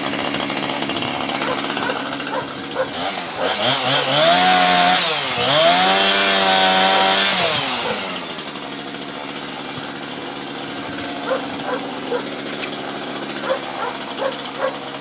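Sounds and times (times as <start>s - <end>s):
chainsaw cutting tree limbs: 0.0s - 15.0s.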